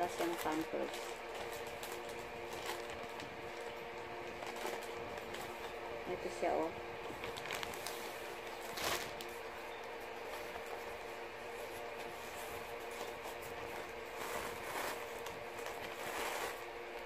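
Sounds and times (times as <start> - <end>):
pad rustling and crinkling: 0.0 - 17.0
steady background hum: 0.0 - 17.0.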